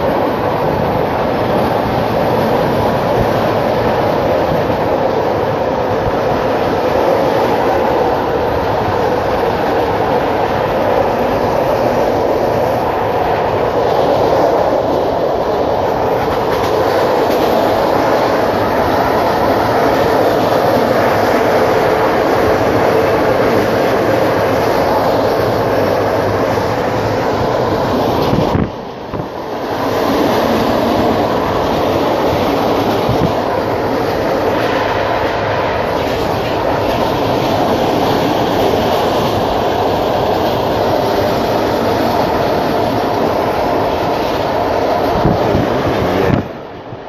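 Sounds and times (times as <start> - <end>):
train wheels on rails: 0.0 - 47.0.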